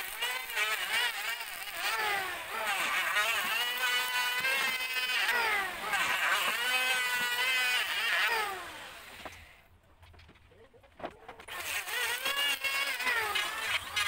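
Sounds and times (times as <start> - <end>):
electric hand planer cutting wood: 0.0 - 9.6, 11.4 - 14.0.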